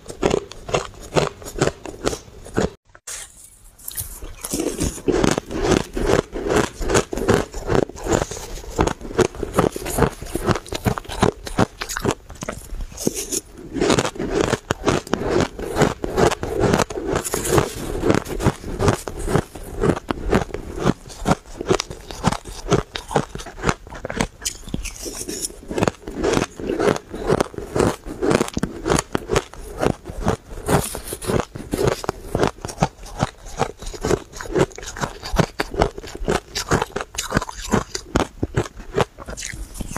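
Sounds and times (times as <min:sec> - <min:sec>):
chewing crunchy shaved ice: 0:00.0 - 0:02.8, 0:03.8 - 0:39.9.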